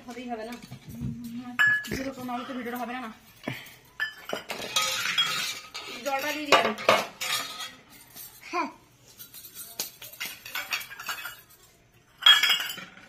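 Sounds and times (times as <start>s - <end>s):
metal bowls and spoons clinking: 0.0s - 13.0s.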